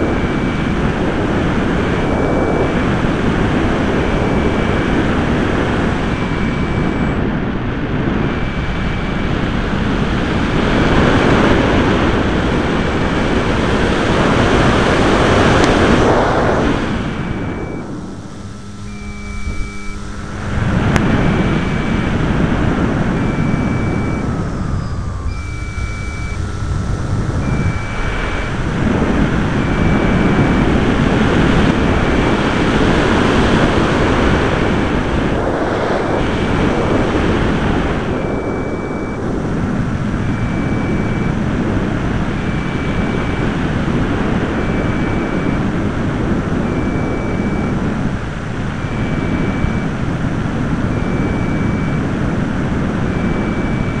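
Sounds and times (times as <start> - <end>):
thin high pulsing tone: 0.0 - 7.2, 7.9 - 11.9, 14.3 - 45.9, 53.0 - 54.0.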